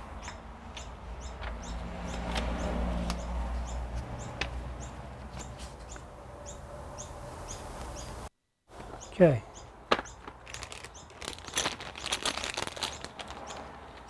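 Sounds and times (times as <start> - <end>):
small bird chirping: 0.0 - 11.4.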